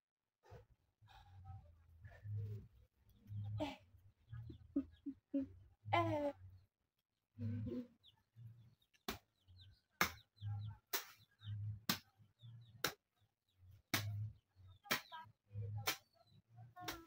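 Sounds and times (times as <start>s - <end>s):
birds chirping: 1.8s - 6.7s, 7.3s - 17.0s.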